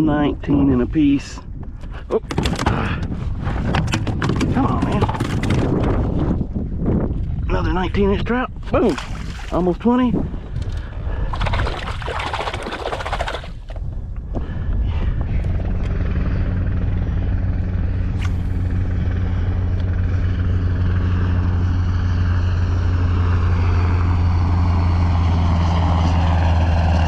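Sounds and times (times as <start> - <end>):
aircraft engine drone: 0.0 - 27.0.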